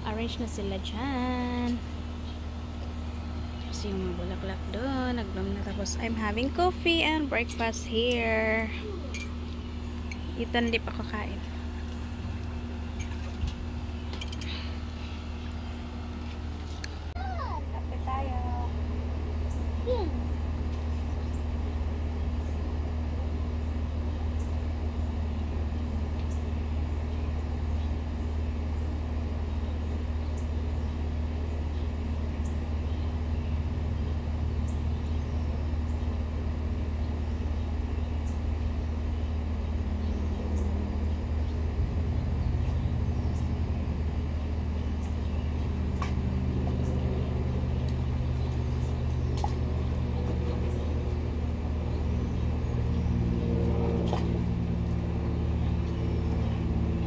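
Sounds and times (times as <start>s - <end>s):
machine low drone: 0.0s - 57.0s.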